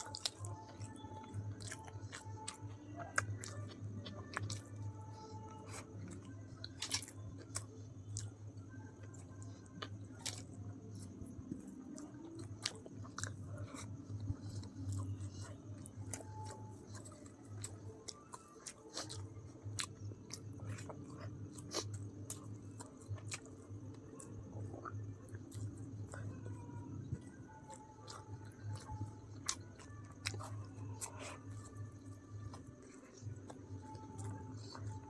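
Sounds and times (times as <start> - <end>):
person chewing: 0.0 - 35.0
steady low hum: 0.0 - 35.0.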